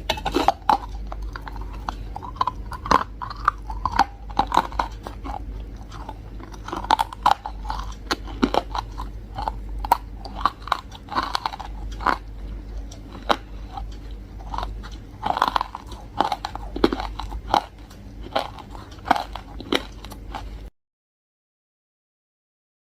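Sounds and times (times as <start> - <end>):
person chewing crunchy food: 0.0 - 20.7.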